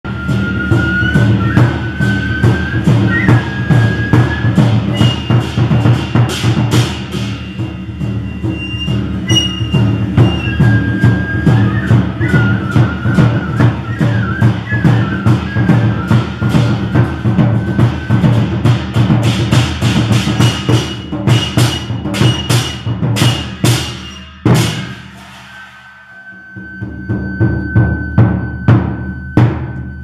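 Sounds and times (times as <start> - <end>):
taiko drums: 0.1 - 30.0.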